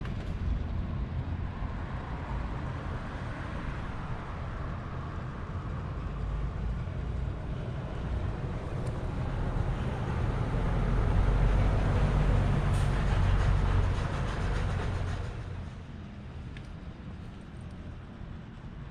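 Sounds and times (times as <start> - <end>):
low rumbling road noise: 0.0 - 18.9.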